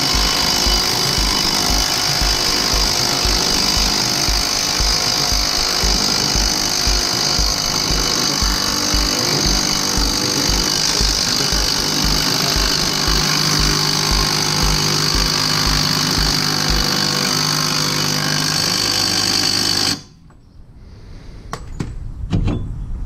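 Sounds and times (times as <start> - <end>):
low thumps: 0.0 - 20.1
machine running loudly: 0.0 - 20.1.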